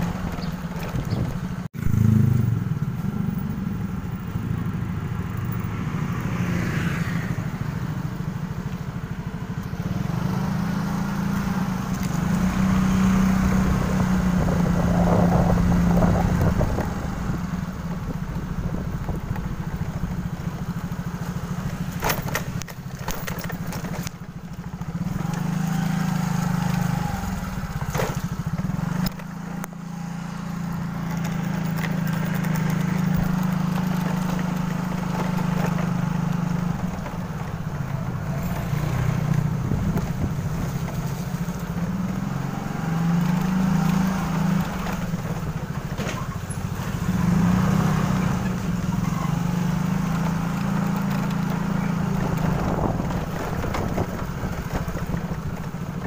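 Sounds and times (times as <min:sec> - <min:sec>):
motorcycle engine riding: 0:00.0 - 0:56.0.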